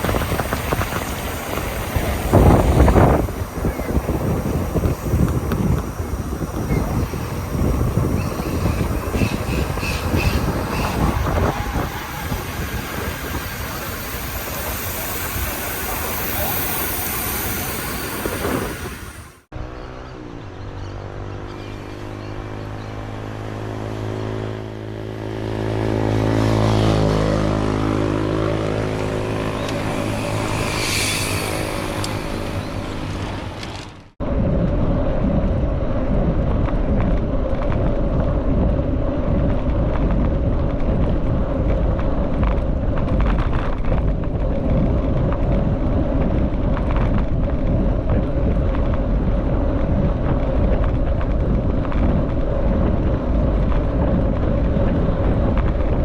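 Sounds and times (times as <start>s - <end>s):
steady rumbling noise: 0.0s - 19.7s, 21.9s - 56.0s
motor vehicle engine running: 0.0s - 56.0s.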